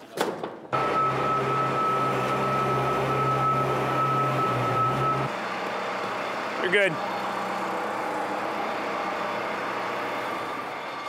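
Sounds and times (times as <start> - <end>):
motor humming and whining: 0.8 - 11.0.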